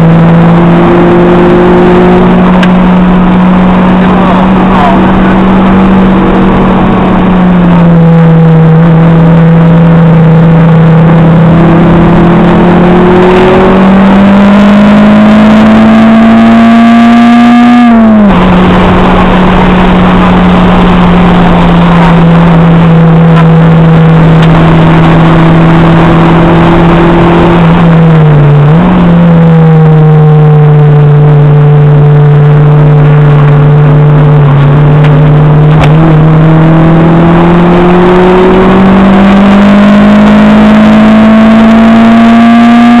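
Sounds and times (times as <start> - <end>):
car engine revving hard: 0.0 - 43.0
road and wind noise: 0.0 - 43.0.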